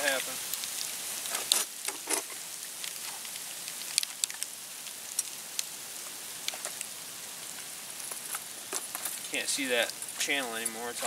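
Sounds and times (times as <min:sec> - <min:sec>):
steady hiss: 0:00.0 - 0:11.0
water dripping: 0:00.0 - 0:11.0.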